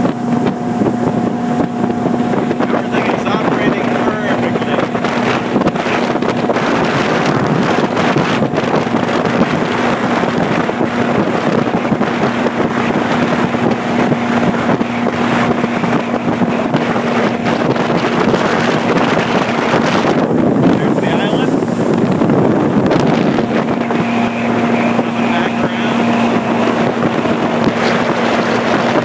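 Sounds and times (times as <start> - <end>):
boat engine humming: 0.0 - 29.0
water rushing: 0.0 - 29.0
wind buffeting microphone: 0.0 - 29.0.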